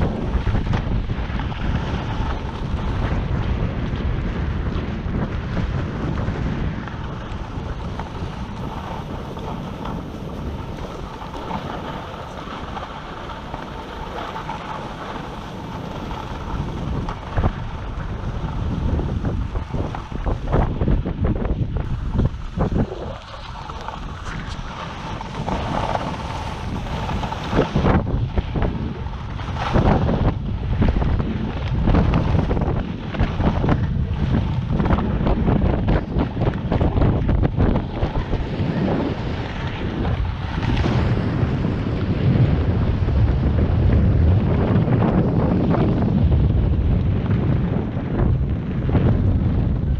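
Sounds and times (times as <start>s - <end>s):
skis sliding on snow: 0.0s - 43.4s, 44.5s - 46.3s
wind buffeting microphone: 0.0s - 49.9s.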